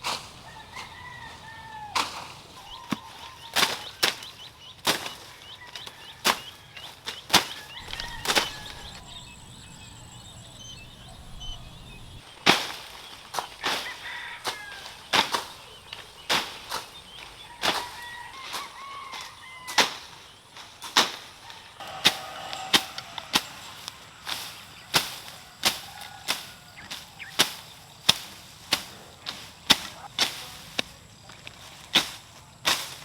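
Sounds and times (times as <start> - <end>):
birds chirping: 0.0 - 20.6, 21.3 - 30.1
lovebirds sharp calls: 0.0 - 30.6.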